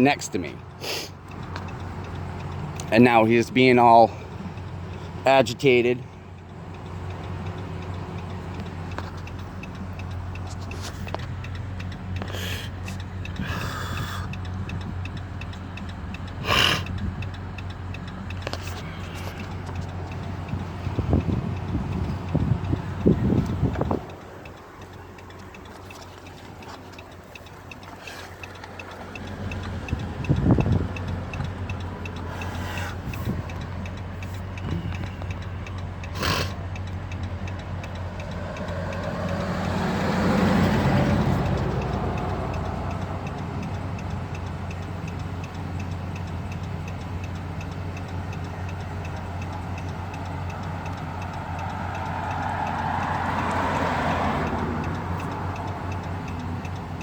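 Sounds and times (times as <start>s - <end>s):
vehicle passing: 0.0s - 45.3s, 47.3s - 57.0s
car engine idling: 0.0s - 57.0s
faint ticking: 0.1s - 57.0s.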